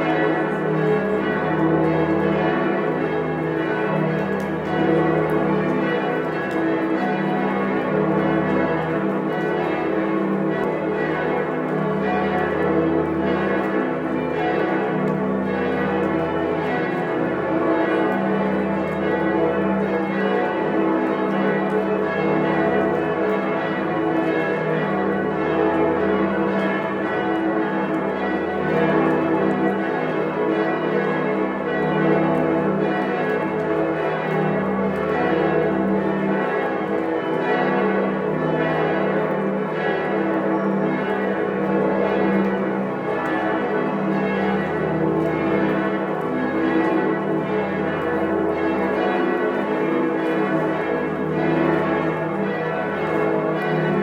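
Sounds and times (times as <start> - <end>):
deep hum of large bells: 0.0 - 54.0
high church bells ringing: 0.0 - 54.0.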